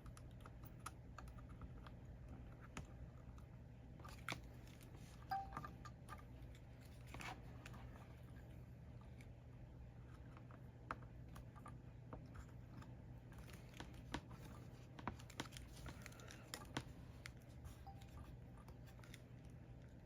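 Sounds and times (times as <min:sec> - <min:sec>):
small clicks and taps: 0:00.0 - 0:07.8, 0:10.0 - 0:19.9
low steady hum: 0:00.0 - 0:20.0.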